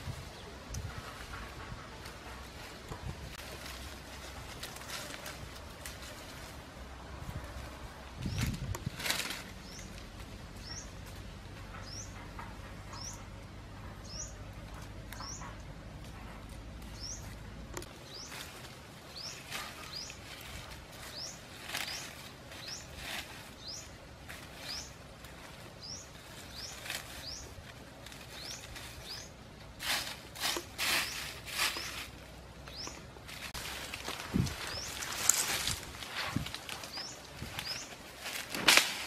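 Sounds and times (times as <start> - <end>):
dry leaves crackling and rustling: 0.0 - 12.1, 14.0 - 39.0.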